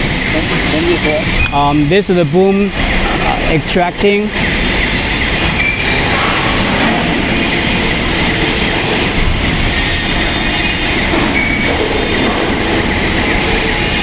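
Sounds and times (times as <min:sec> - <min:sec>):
high squeal: 0:00.0 - 0:02.2, 0:04.6 - 0:14.0
rolling machine noise: 0:00.0 - 0:14.0.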